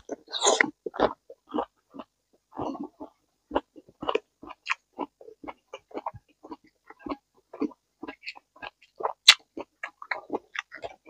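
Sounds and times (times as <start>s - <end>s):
wet chewing and lip-smacking: 0.0s - 11.0s.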